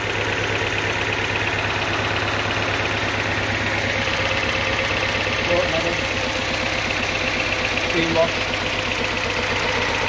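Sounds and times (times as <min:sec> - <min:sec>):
car engine idling lumpy: 0:00.0 - 0:10.0.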